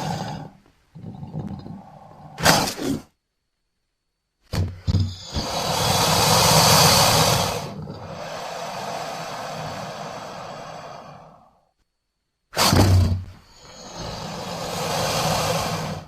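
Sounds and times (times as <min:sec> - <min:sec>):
long breathy hiss: 0:00.0 - 0:03.2, 0:04.7 - 0:11.8, 0:12.5 - 0:16.0.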